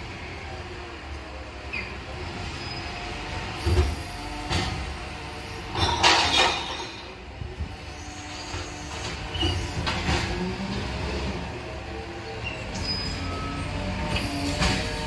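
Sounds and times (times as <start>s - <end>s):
garbage truck diesel engine: 0.0s - 15.0s.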